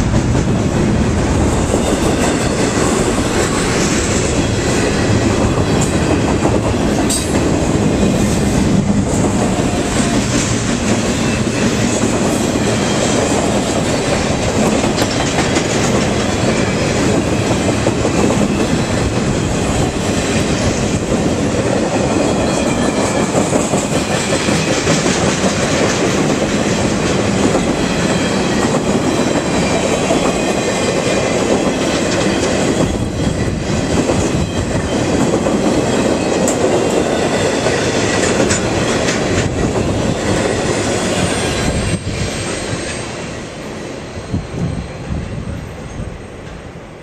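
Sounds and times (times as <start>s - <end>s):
train wheels clattering on rails: 0.0s - 46.8s.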